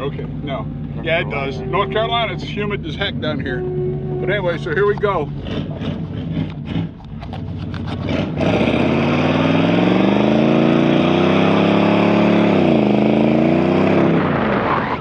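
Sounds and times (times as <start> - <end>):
engine accelerating hard: 0.0 - 15.0.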